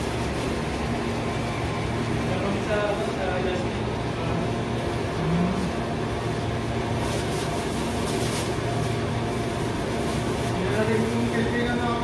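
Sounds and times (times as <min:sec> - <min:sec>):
refrigeration machinery hum: 0:00.0 - 0:12.0.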